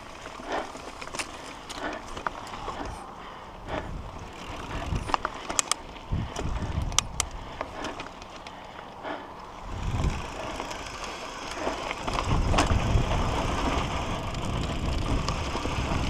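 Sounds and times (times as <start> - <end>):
bike chain rattling and clicking: 0.0 - 16.0
bike tyres on dirt: 0.0 - 16.0.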